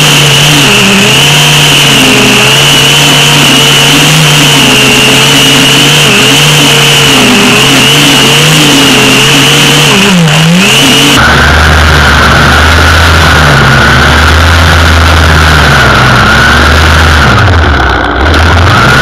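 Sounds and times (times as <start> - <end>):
string trimmer engine running: 0.0 - 19.0.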